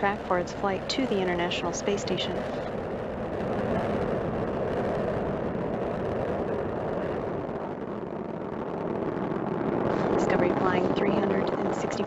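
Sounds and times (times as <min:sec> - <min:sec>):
rocket engines roaring: 0:00.0 - 0:12.0.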